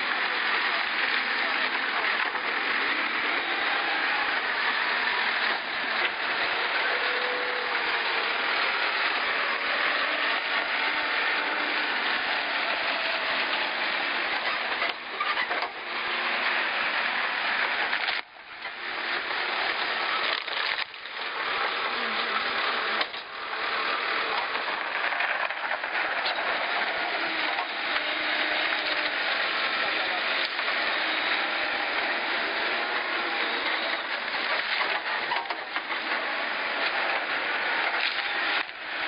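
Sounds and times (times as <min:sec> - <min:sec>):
diesel engine running hard: 0:00.0 - 0:39.0.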